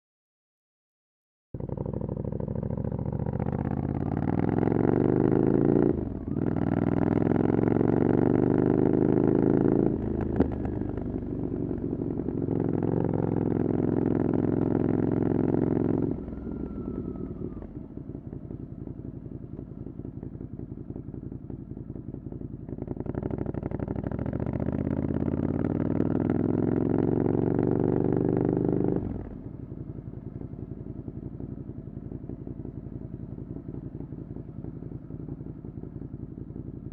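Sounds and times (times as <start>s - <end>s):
motorcycle engine revving: 1.6s - 36.9s.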